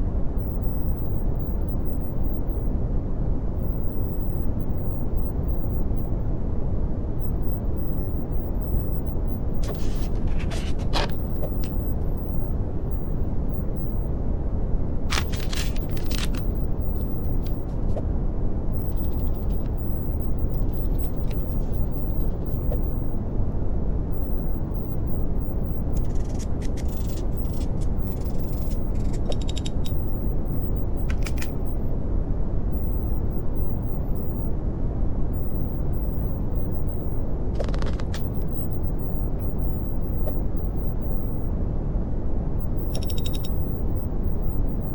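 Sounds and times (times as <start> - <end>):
deep rumbling brown noise: 0.0 - 44.9.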